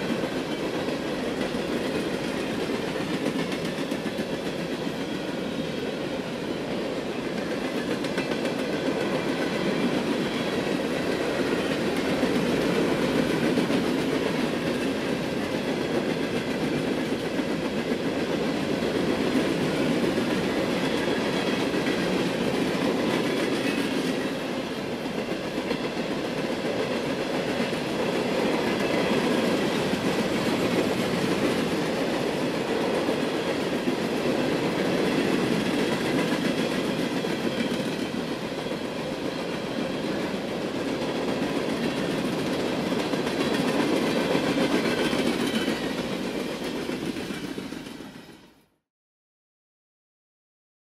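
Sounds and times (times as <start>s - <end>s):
freight train rumbling past: 0.0s - 48.6s.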